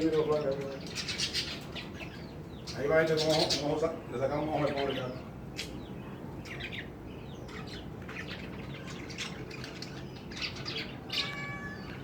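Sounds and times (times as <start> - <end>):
pet bird chirping: 0.0 - 12.0.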